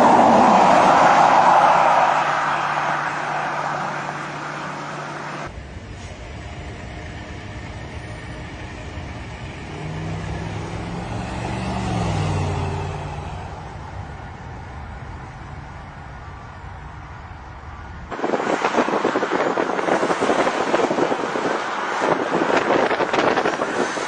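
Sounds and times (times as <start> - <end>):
loud rushing vehicle noise: 0.0 - 24.0.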